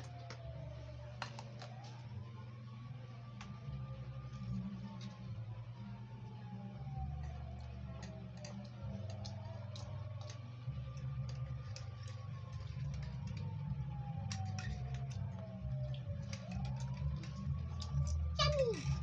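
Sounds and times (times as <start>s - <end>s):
low rumbling hum: 0.0s - 19.0s.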